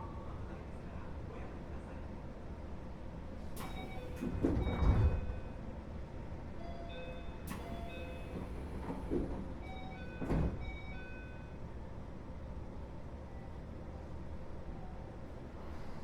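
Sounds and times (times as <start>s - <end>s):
train car low rumble: 0.0s - 16.0s.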